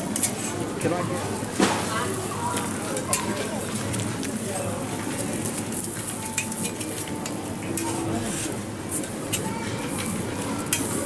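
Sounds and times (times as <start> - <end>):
galette sizzling on griddle: 0.0 - 11.0.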